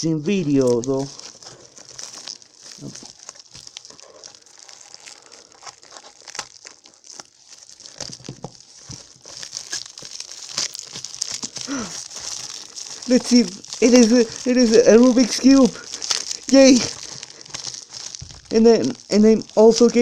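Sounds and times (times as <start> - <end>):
plastic packaging crinkling and tearing: 0.0 - 20.0
sharp clicks and crackles: 0.0 - 20.0.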